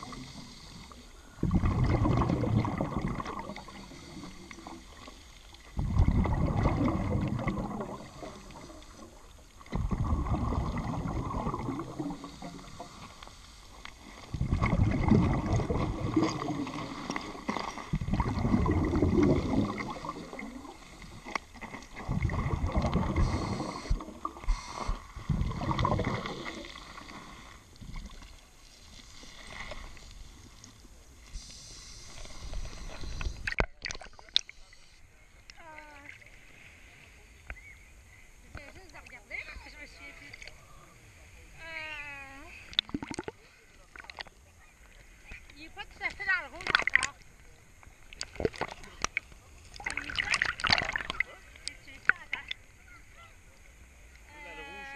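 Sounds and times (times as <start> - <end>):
regulator bubbles underwater: 0.0 - 36.2, 42.6 - 45.4, 46.6 - 52.8
water splashing: 0.0 - 37.7, 38.4 - 54.9.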